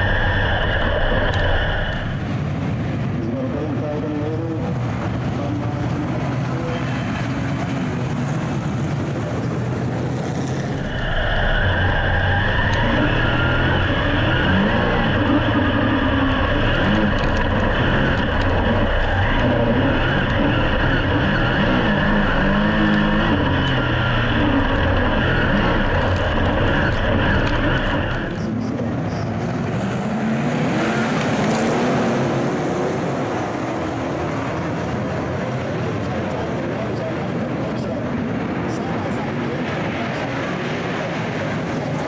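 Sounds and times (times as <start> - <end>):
high whine: 0.0 - 42.0
racing car engines: 0.0 - 42.0.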